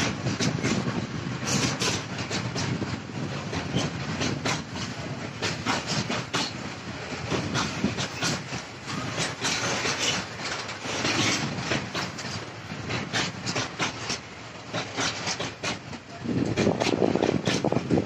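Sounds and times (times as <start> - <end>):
train wheels rumbling on rails: 0.0 - 18.0
wheels clacking over rail joints: 0.0 - 18.0.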